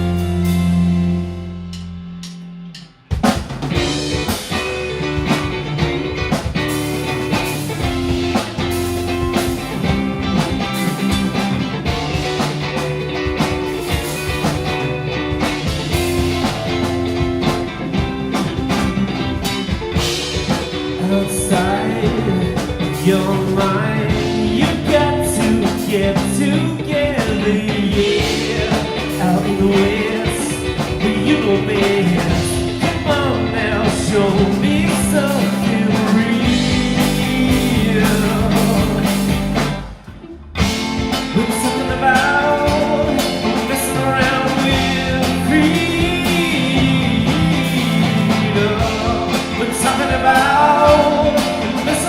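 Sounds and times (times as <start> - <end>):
drums: 0.0 - 52.0
electric guitar: 0.0 - 52.0
rock band playing live: 0.0 - 52.0.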